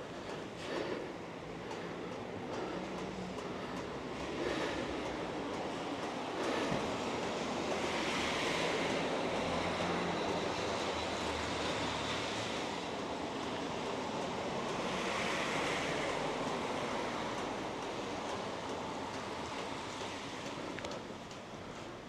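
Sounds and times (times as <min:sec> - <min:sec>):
street noise hiss: 0:00.0 - 0:22.0
tyres swishing on wet road: 0:00.0 - 0:22.0.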